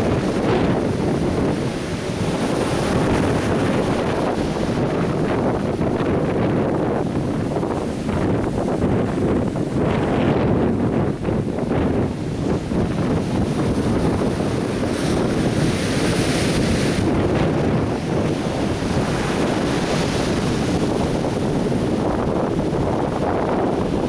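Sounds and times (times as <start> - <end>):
surf breaking on a beach: 0.0 - 24.0
wind buffeting microphone: 0.0 - 24.0.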